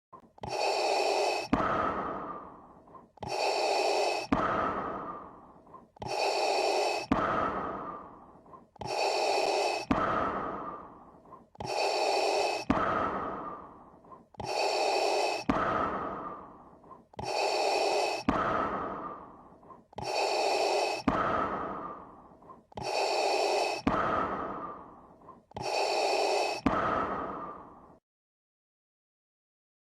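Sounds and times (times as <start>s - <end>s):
mechanical breathing: 0.2s - 28.0s.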